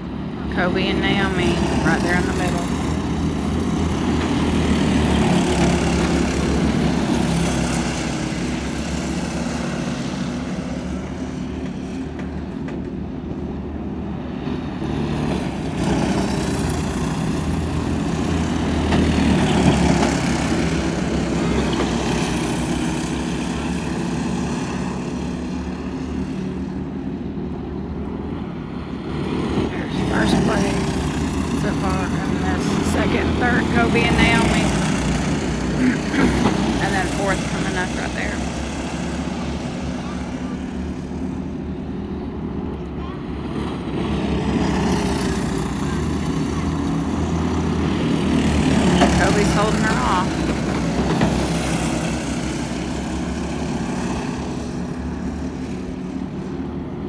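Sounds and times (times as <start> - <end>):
kart engines racing: 0.0 - 57.0.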